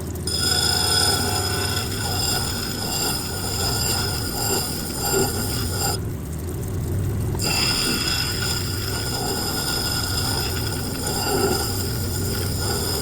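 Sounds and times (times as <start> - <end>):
high grinding whine: 0.0 - 13.0
low motor hum: 0.0 - 13.0.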